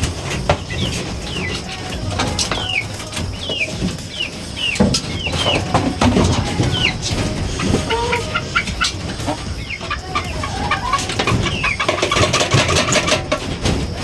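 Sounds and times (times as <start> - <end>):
chicks peeping: 0.0 - 14.0
handling knocks and rustles: 0.0 - 14.0.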